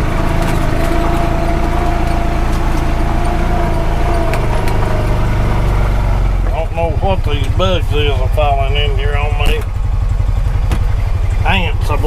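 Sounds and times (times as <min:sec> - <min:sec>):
steady whine: 0:00.0 - 0:12.0
utility vehicle engine running: 0:00.0 - 0:12.0.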